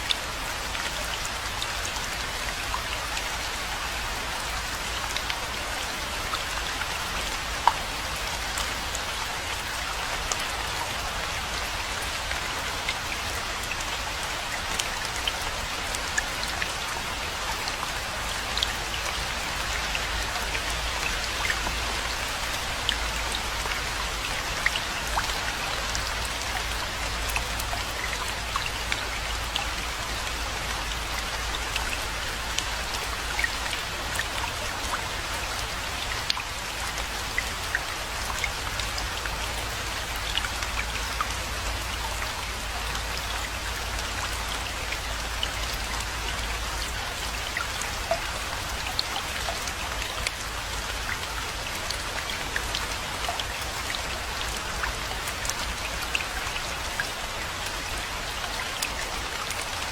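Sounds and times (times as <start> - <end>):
close raindrops ticking: 0.0 - 59.9
steady rainfall: 0.0 - 59.9.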